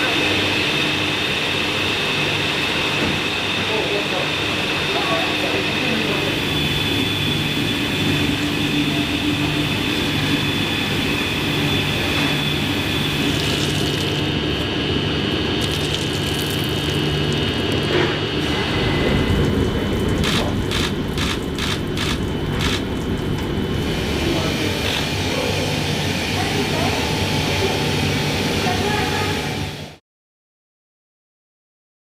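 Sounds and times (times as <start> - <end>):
machine hum and rush: 0.0 - 30.0.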